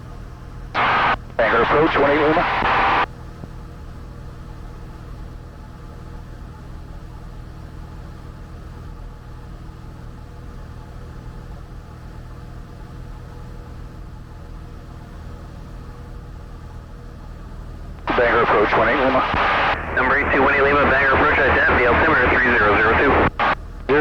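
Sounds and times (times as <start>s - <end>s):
plane engine droning in cabin: 0.2s - 9.4s, 13.6s - 24.0s.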